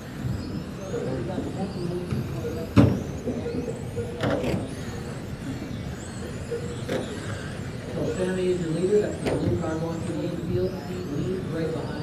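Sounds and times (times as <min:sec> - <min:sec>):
toy car motors whining: 0:00.0 - 0:12.0.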